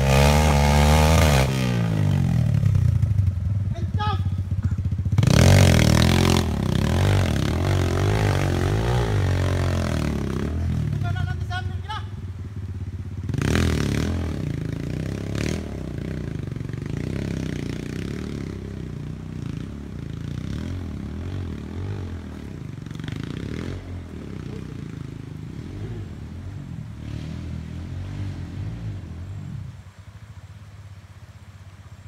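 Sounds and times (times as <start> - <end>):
motorbike engine running: 0.0 - 26.8.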